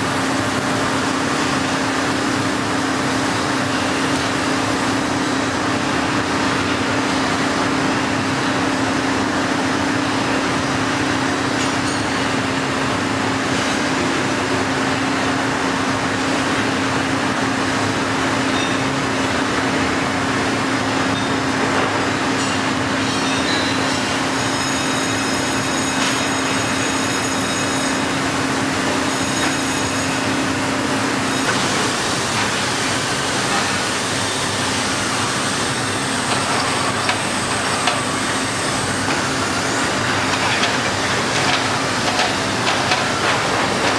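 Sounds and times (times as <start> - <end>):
plate bending machine humming: 0.0 - 43.9.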